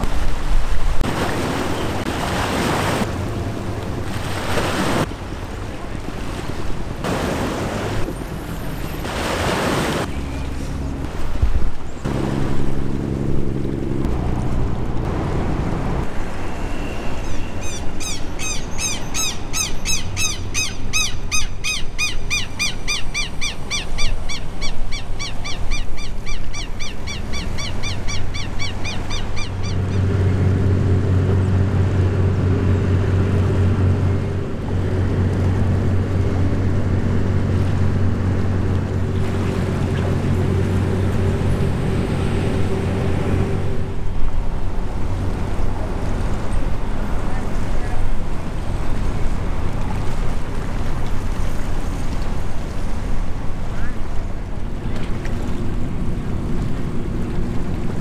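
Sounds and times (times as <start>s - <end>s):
engine hum: 0.0s - 58.0s
low diesel boat drone: 0.0s - 58.0s.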